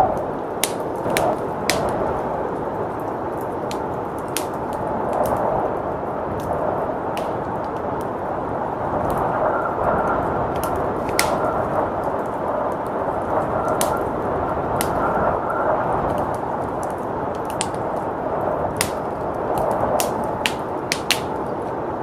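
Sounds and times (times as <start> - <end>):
blizzard wind rushing: 0.0 - 22.0
wood fire crackling and popping: 0.0 - 22.0.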